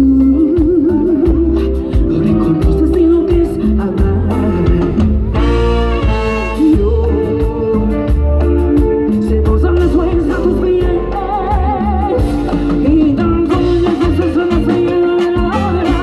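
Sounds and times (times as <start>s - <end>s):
bass: 0.0s - 16.0s
drums: 0.0s - 16.0s
singer with wide vibrato: 0.0s - 16.0s.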